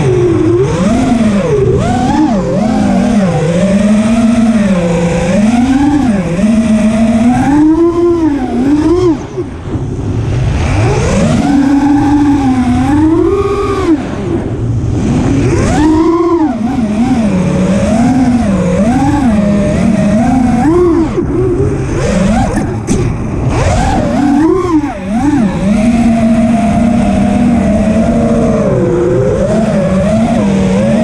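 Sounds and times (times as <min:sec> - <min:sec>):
racing drone motors whining: 0:00.0 - 0:31.0.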